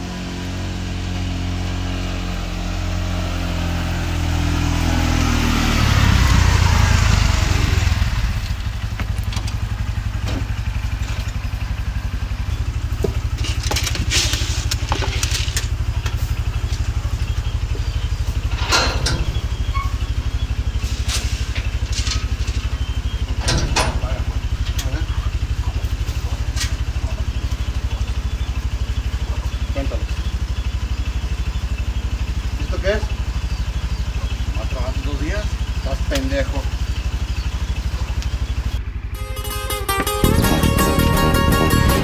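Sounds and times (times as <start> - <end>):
utility vehicle engine idling: 0.0 - 42.0.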